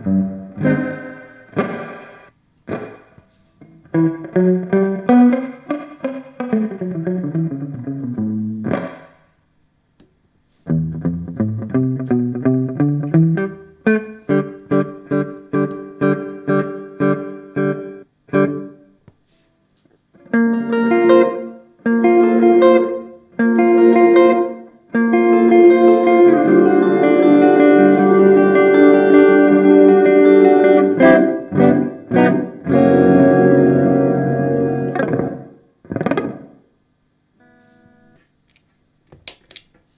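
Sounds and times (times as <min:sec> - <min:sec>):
electric guitar chords with reverb: 0:00.0 - 0:03.2, 0:03.8 - 0:09.2, 0:10.7 - 0:18.8, 0:20.3 - 0:36.6.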